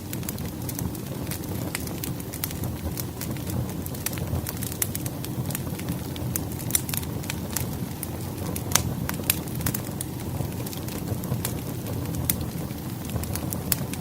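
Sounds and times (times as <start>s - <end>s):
fire flames rumbling: 0.0s - 14.0s
firewood crackling and popping: 0.0s - 14.0s.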